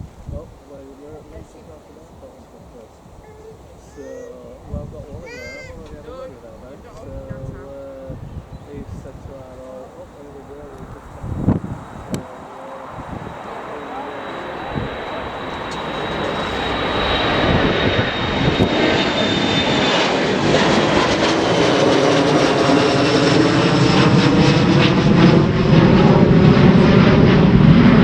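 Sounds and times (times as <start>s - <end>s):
airliner engines roaring: 0.0s - 28.0s.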